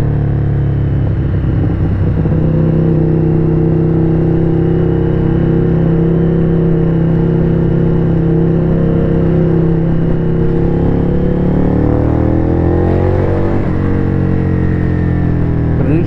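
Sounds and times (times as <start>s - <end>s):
motorcycle engine revving up: 1.3s - 16.0s.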